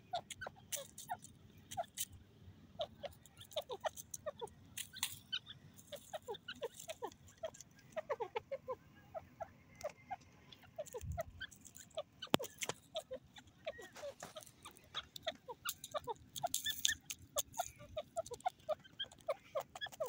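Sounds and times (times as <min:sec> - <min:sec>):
bird chirping call notes: 0:02.8 - 0:20.0.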